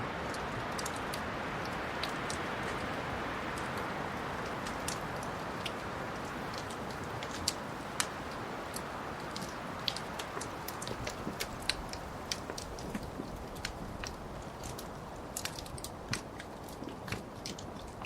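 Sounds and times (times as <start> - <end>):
wood fire crackling: 0.0 - 18.0
fire pops and snaps: 0.2 - 18.0.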